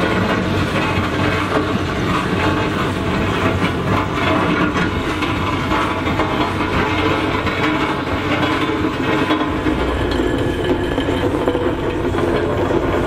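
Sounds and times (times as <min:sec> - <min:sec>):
steam roller mechanical clatter: 0:00.0 - 0:13.0.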